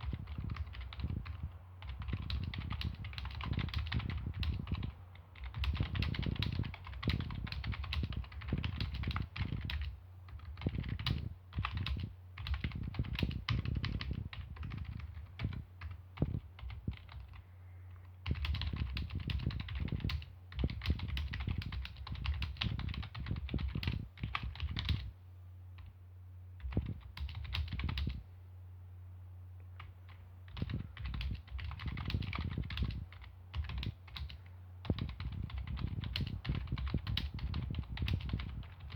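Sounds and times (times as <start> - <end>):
keyboard typing: 0.0 - 25.1, 26.6 - 28.2, 29.8 - 38.9
steady low hum: 0.0 - 38.9.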